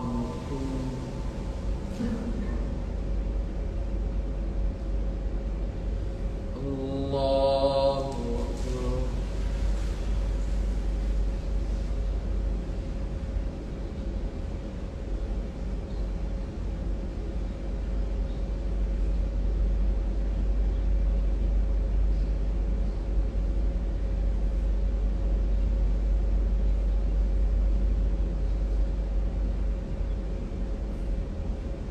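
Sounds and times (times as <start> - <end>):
constant hum: 0.0 - 31.9
low rumble: 0.0 - 31.9.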